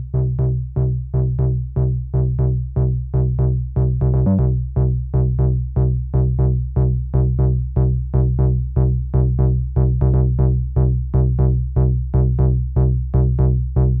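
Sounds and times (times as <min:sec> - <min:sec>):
synth bass sequence: 0:00.0 - 0:14.0.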